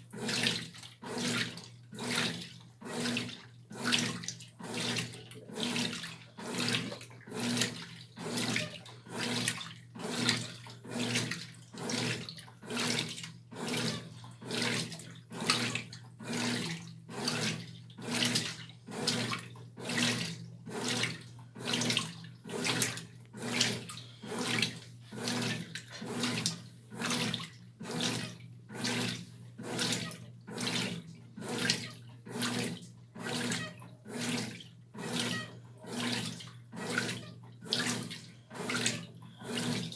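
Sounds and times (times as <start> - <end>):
washing machine motor hum: 0.0 - 39.9
water sloshing in washing machine: 0.0 - 39.9.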